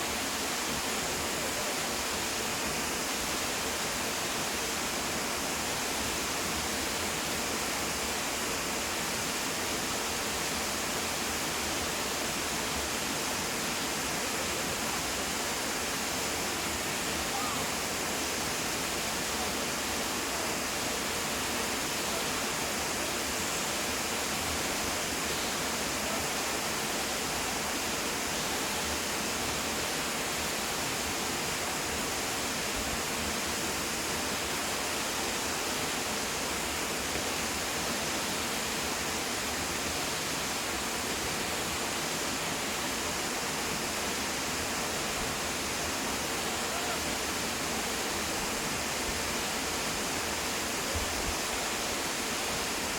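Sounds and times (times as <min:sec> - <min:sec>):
waterfall crashing: 0:00.0 - 0:52.9.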